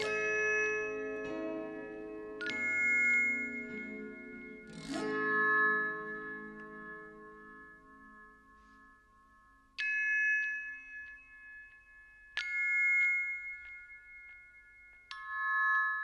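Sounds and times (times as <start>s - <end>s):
bell-like chime notes: 0.0s - 16.0s.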